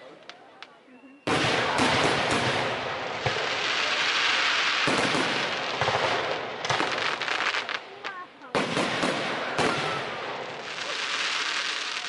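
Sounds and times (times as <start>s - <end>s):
firework crackling: 0.2s - 12.0s
firework shells bursting: 1.3s - 12.0s.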